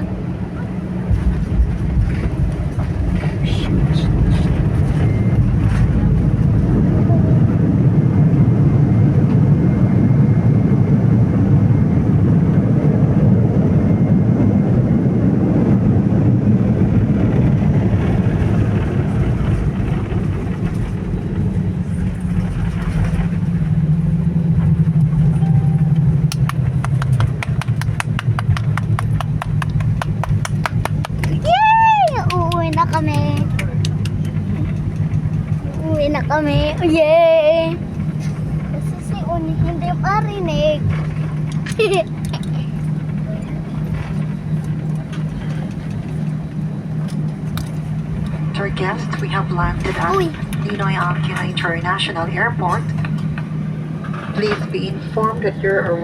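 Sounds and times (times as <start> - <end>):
jet engine roar in cabin: 0.0 - 56.0.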